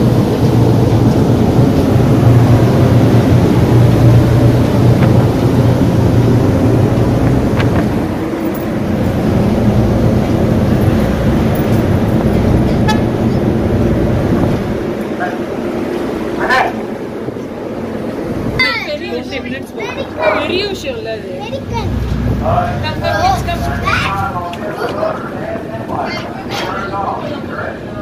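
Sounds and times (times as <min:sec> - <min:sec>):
ship engines droning: 0:00.0 - 0:28.0.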